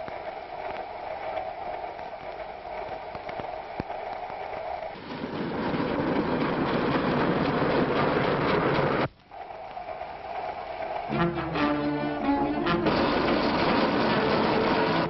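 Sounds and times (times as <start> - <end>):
train rushing: 0.0 - 15.0.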